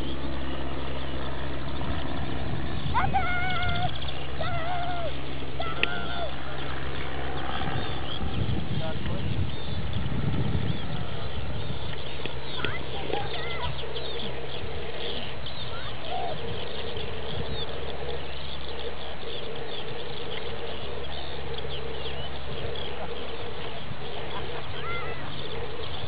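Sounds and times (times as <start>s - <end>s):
songbirds chirping and singing: 0.0s - 26.0s
steady low hum: 0.0s - 26.0s.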